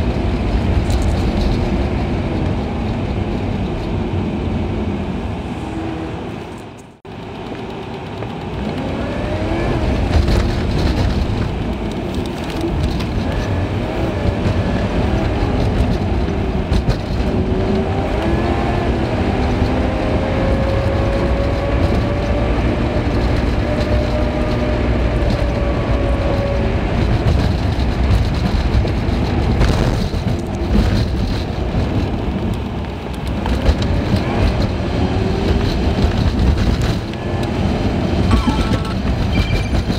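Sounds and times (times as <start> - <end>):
car road rumble and tyre hiss: 0.0 - 39.9.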